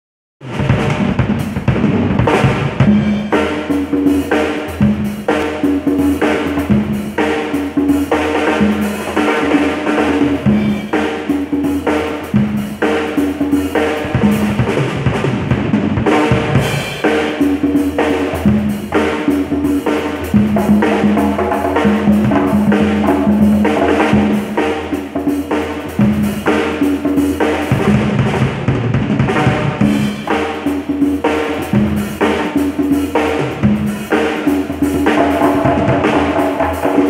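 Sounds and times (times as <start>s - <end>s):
drum kit groove: 0.4s - 37.0s.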